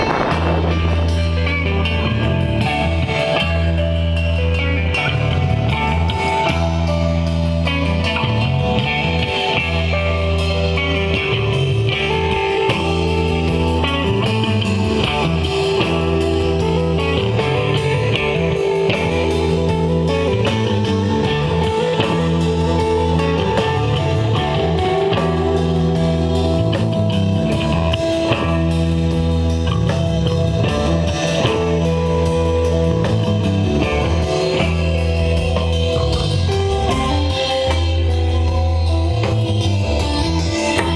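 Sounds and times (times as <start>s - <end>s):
drum kit: 0.0s - 40.9s
electric guitars: 0.0s - 40.9s
rock band jamming: 0.0s - 40.9s.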